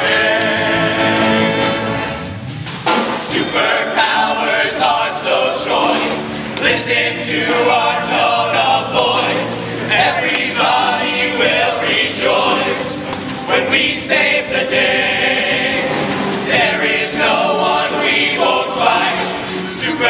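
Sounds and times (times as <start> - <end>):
group of voices singing: 0.0 - 2.3, 2.9 - 20.0.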